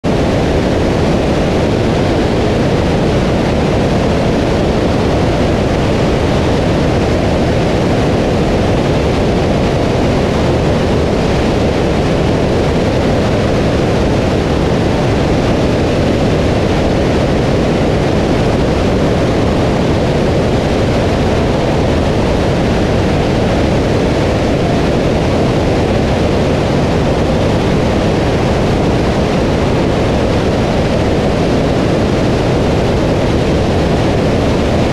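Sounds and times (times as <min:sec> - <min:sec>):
aircraft engine and propeller: 0:00.0 - 0:34.9
rush of airflow: 0:00.0 - 0:34.9.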